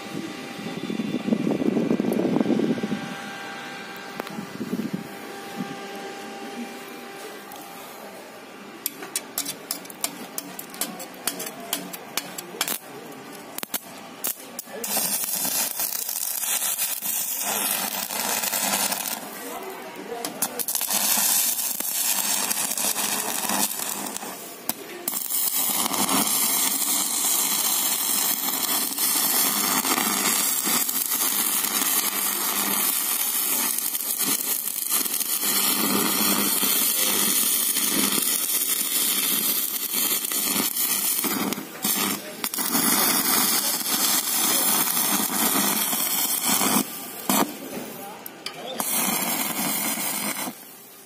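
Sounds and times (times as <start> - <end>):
welding arc crackling: 8.8 - 51.0.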